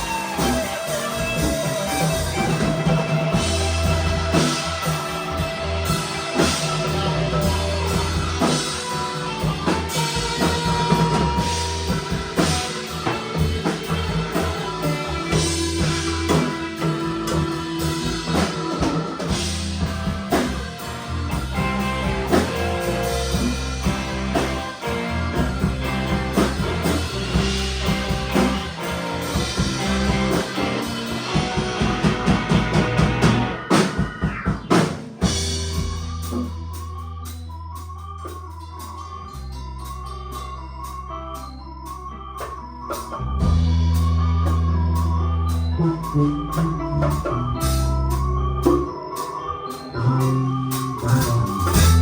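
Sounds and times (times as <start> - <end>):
low bass line: 0.0 - 33.6, 35.2 - 49.2, 49.8 - 52.0
guitar: 0.0 - 52.0.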